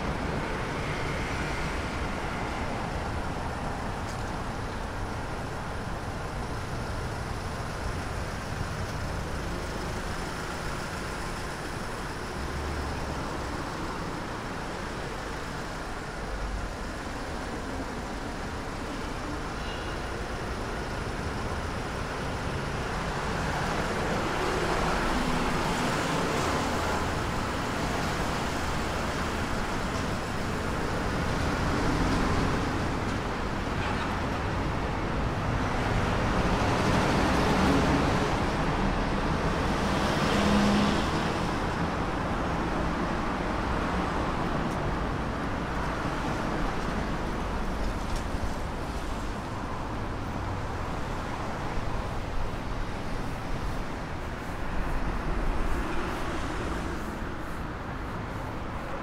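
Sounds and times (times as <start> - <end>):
road noise hum: 0.0 - 59.0
vehicles passing: 0.0 - 59.0.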